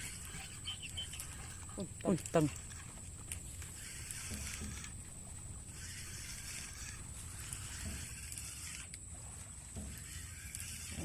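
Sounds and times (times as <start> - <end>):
water sloshing: 0.0 - 10.5.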